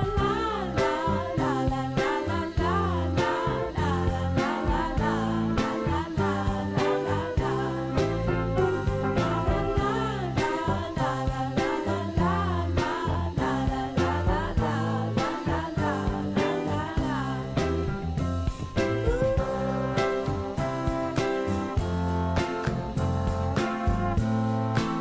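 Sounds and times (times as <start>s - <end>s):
person singing: 0.0s - 18.1s, 18.8s - 25.0s
background music with steady beat: 0.0s - 25.0s.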